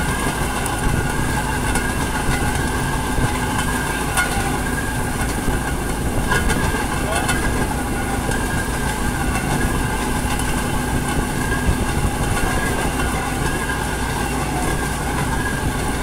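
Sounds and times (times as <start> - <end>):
rail vehicle engine drone: 0.0 - 16.0
steady whine: 0.0 - 16.0
wheels rolling on rails: 0.0 - 16.0.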